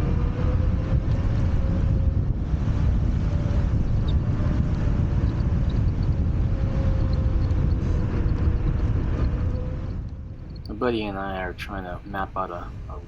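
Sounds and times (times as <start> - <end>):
faint steady whine: 0.0 - 13.0
wind buffeting microphone: 0.0 - 13.0.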